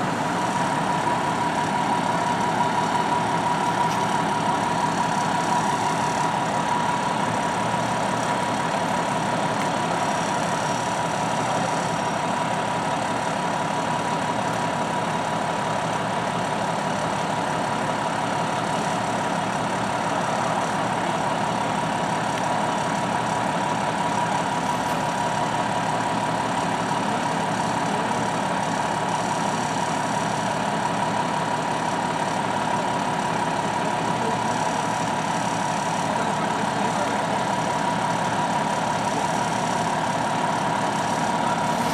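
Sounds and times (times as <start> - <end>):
engine whine: 0.0 - 17.2, 18.6 - 41.9
fire engine idling: 0.0 - 41.9.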